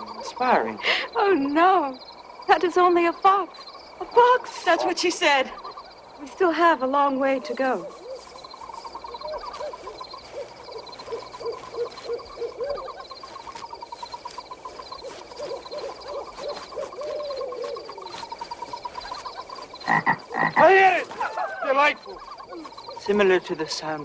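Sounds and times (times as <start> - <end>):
steady high chirring: 0.0 - 24.0.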